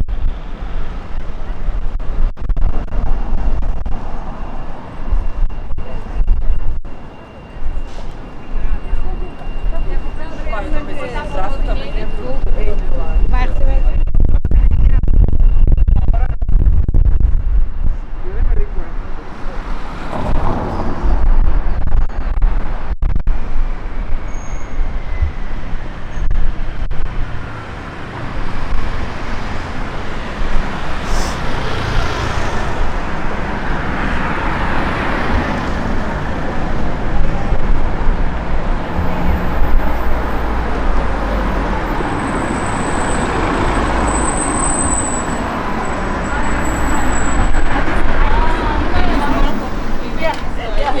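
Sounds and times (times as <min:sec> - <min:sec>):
traffic roar: 0:00.0 - 0:14.0, 0:17.6 - 0:51.0
wind buffeting microphone: 0:00.0 - 0:51.0.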